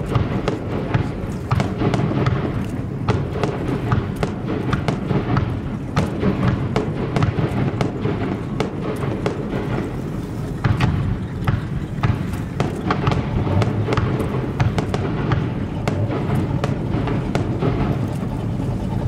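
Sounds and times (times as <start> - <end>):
fireworks bursting and crackling: 0.0 - 19.0
low rumble: 0.0 - 19.0.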